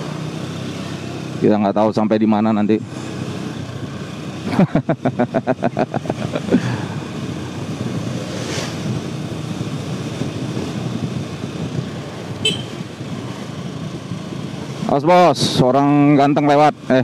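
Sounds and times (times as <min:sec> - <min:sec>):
motorcycle engine in traffic: 0:00.0 - 0:17.0.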